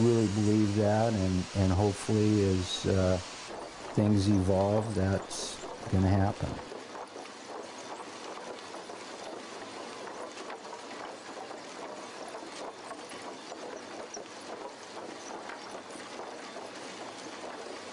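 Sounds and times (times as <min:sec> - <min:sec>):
conveyor mechanical clatter: 0:00.0 - 0:17.9.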